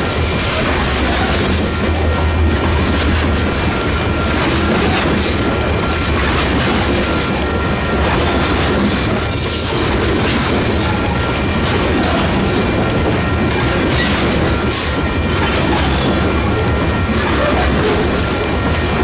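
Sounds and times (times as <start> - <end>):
train cars rumbling on rails: 0.0 - 19.0
train wheel clacks: 0.0 - 19.0.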